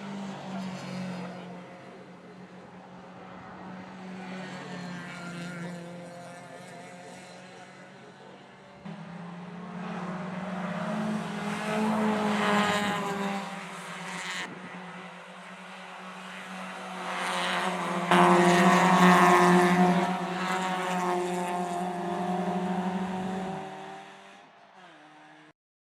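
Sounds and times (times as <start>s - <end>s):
race car engines passing: 0.0s - 25.5s.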